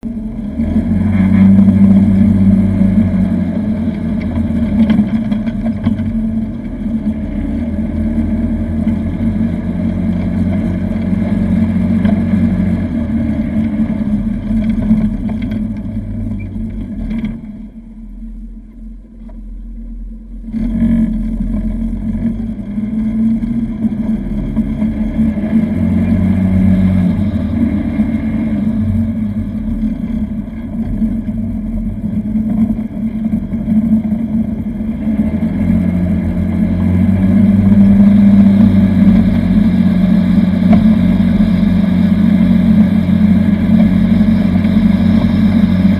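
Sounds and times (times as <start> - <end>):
utility vehicle engine running: 0.0 - 45.9.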